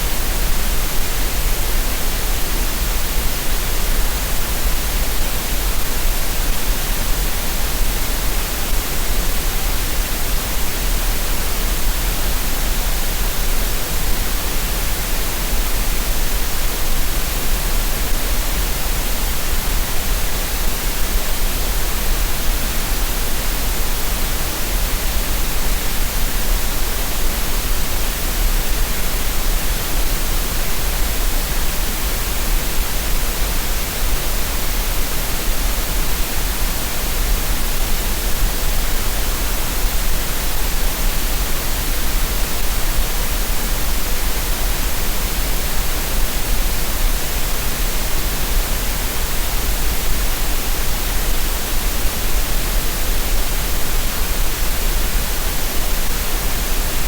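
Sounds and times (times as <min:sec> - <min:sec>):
steady green noise hiss: 0:00.0 - 0:57.0.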